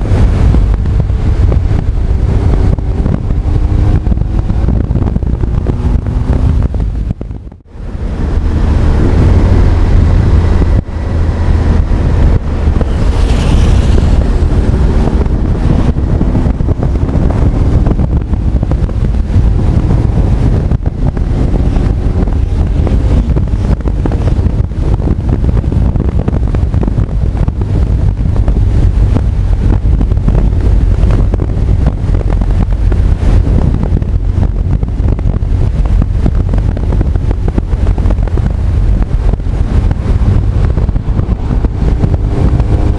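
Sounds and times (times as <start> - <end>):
motorcycle engine: 0.0 - 42.9
wind rumbling over microphone: 0.0 - 42.9.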